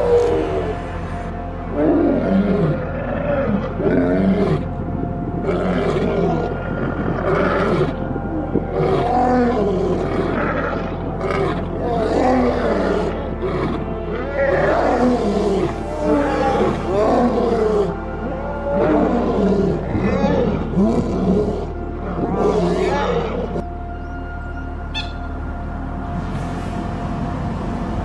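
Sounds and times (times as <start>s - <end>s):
tiger roaring: 0.0s - 4.8s, 5.4s - 23.6s
lions roaring: 0.0s - 23.6s.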